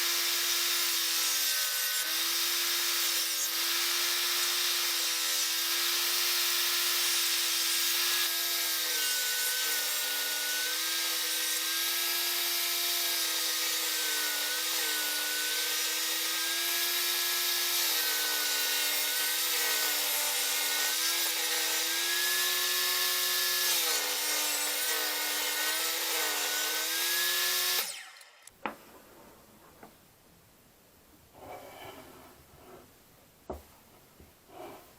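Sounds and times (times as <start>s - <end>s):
circular saw cutting wood: 0.0s - 28.5s.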